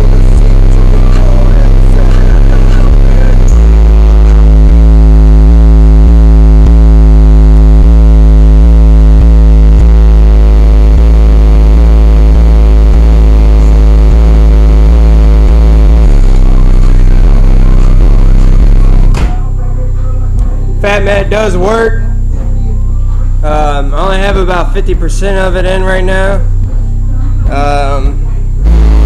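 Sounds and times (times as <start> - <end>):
bass-heavy electronic music: 0.0 - 29.0
synth note sliding down: 0.0 - 29.0.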